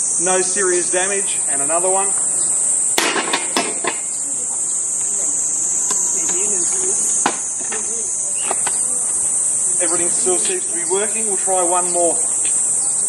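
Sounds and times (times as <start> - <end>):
insect chirring: 0.0 - 13.0.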